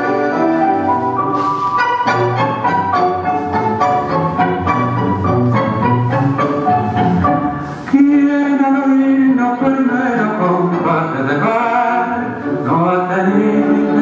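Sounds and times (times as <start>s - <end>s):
tango waltz music: 0.0s - 14.0s.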